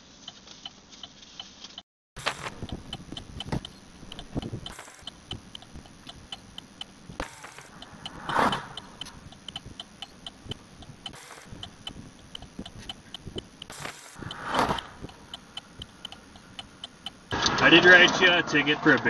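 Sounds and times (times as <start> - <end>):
flasher relay ticking: 0.1 - 17.8.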